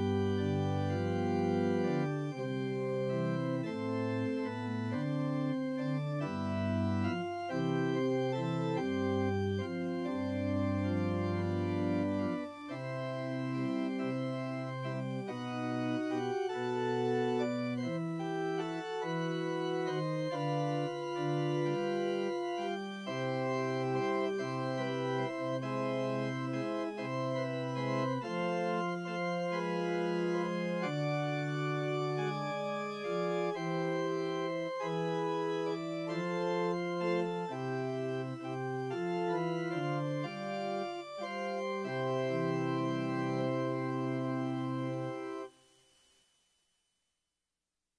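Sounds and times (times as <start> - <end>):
church organ chords: 0.0 - 45.5.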